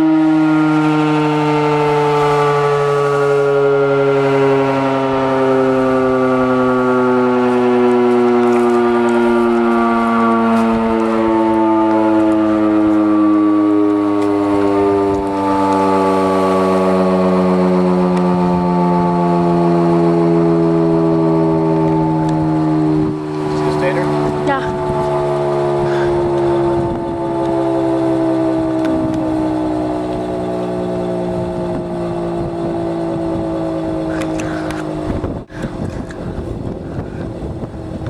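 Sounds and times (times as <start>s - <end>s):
air-raid siren wailing: 0.0s - 38.0s.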